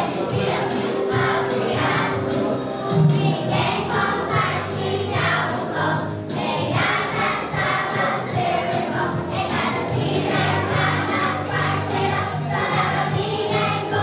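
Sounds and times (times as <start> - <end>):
choir singing with accompaniment: 0.0 - 14.0.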